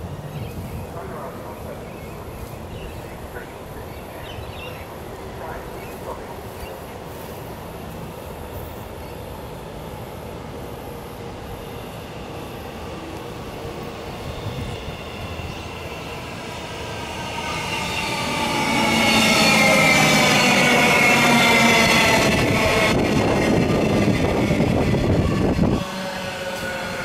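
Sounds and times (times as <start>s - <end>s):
electric train approaching: 0.0s - 27.0s
high train whine: 0.0s - 27.0s.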